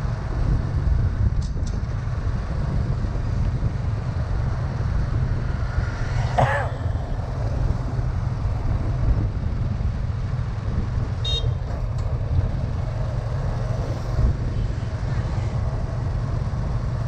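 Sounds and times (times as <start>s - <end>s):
motorbike engine rumble: 0.0s - 17.0s.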